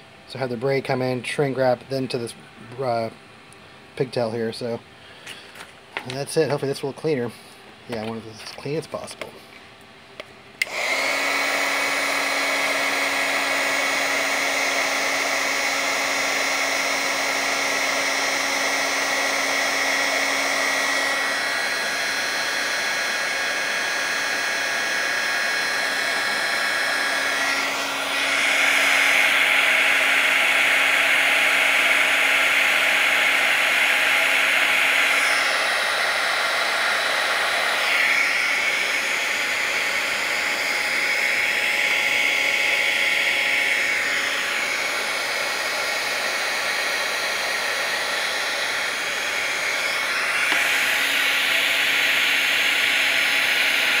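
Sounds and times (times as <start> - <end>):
heat gun fan whirring: 0.0 - 54.0.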